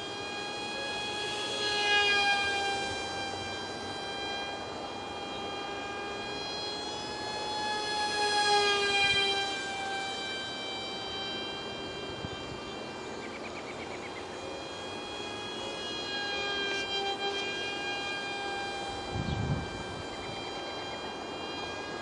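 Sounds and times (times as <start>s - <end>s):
small electric motor whining: 0.0s - 22.0s.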